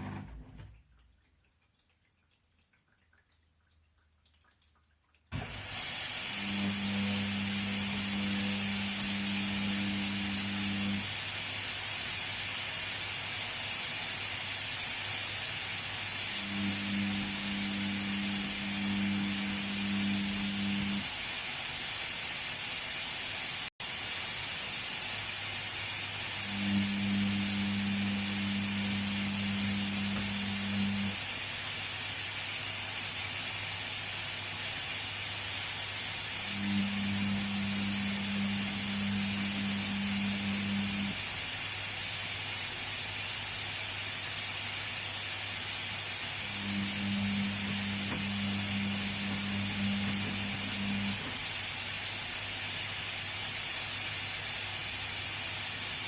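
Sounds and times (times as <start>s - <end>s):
washing machine drum motor humming: 0.0s - 4.0s, 5.3s - 56.0s
washing machine hiss: 5.3s - 56.0s.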